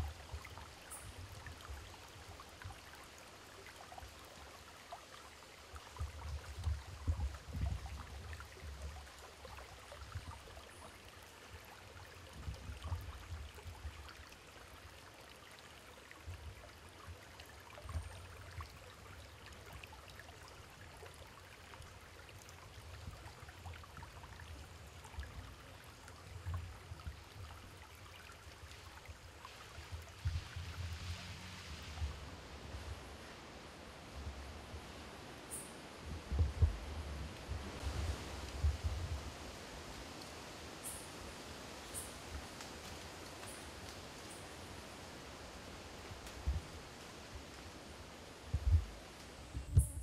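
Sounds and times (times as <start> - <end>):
stream water rushing: 0.0 - 49.6.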